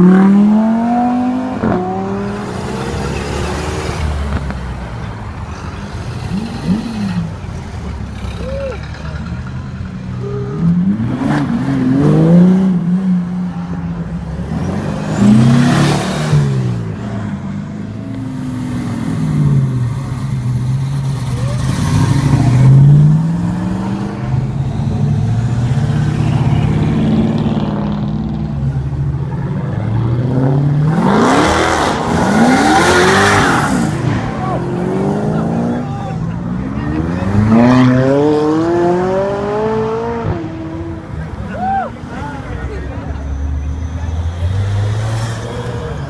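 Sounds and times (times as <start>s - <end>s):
supercar engines revving: 0.0s - 46.0s.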